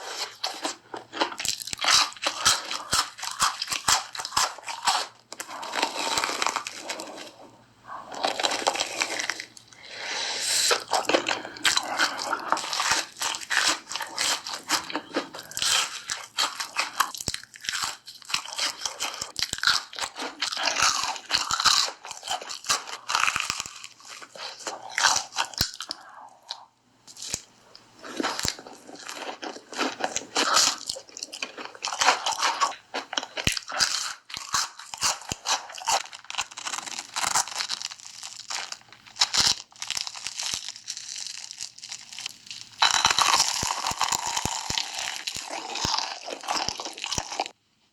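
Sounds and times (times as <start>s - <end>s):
crunching and chewing snacks: 0.0s - 9.9s, 10.6s - 47.6s.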